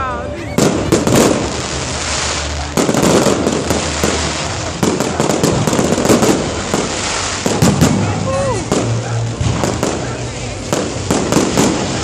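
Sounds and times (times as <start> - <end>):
fireworks bangs and crackling: 0.4 - 12.0.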